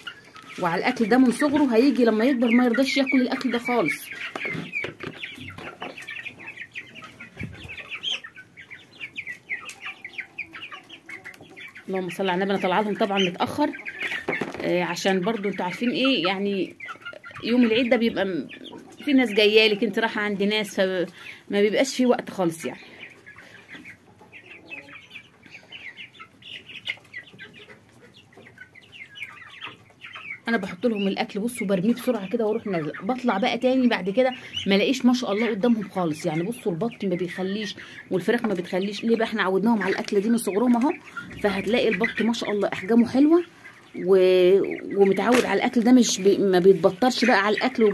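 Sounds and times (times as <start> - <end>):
chickens clucking: 0.0 - 47.9
ducklings peeping: 0.0 - 47.9.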